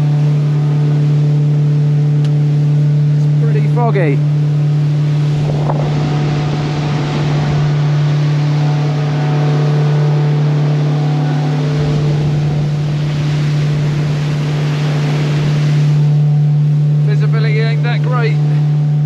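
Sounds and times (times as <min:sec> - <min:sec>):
outboard engine droning: 0:00.0 - 0:19.0
water rushing past hull: 0:00.0 - 0:19.0.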